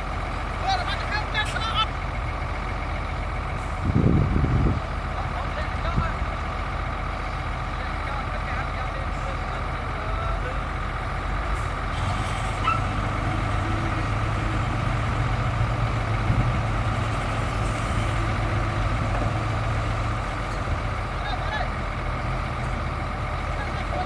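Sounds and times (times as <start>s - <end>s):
diesel earthmoving machinery running: 0.0s - 24.0s.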